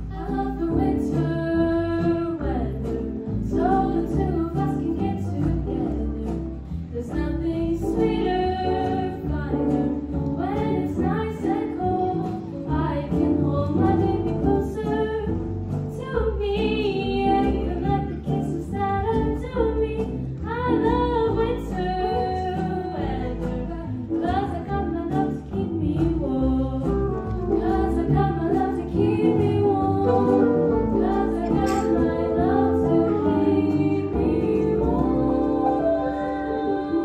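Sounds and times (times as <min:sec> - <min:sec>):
instrumental accompaniment: 0:00.0 - 0:37.0
two women singing duet: 0:00.0 - 0:37.0.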